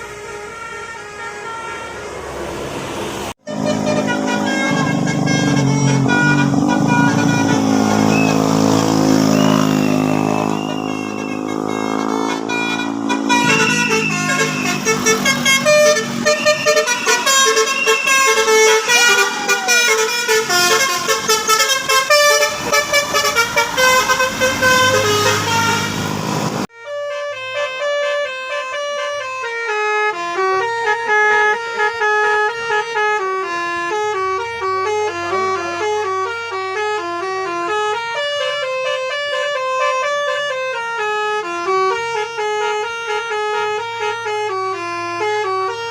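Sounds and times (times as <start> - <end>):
bus air horns playing a tune: 0.0 - 2.2, 3.4 - 45.9
vehicle noise: 0.0 - 45.9.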